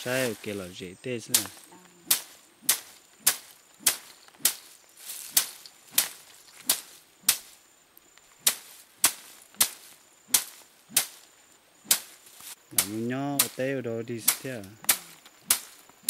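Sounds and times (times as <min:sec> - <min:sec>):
stick whipping dried stalks: 0:00.0 - 0:00.6, 0:01.2 - 0:07.6, 0:08.2 - 0:16.0.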